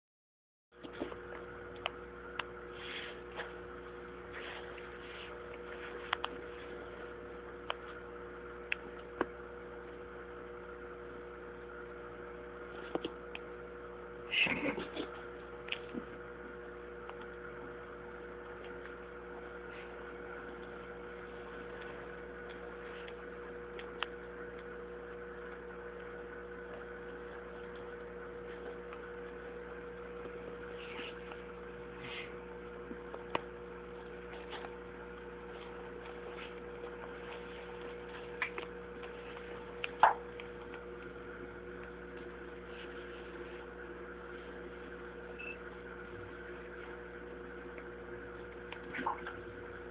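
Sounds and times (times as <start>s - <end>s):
aquarium equipment humming: 0.8s - 49.9s.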